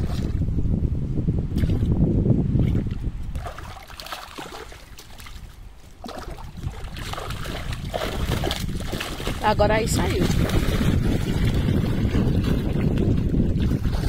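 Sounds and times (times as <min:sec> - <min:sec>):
water splashing and sloshing: 0:00.0 - 0:00.5, 0:01.5 - 0:14.0
fish thrashing at the surface: 0:02.6 - 0:14.0.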